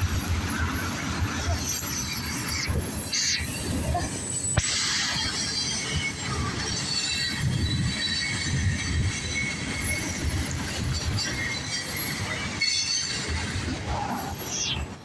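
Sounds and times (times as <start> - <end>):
train wheels rumbling on rails: 0.0 - 15.0
high-pitched wheel squeal: 1.4 - 15.0.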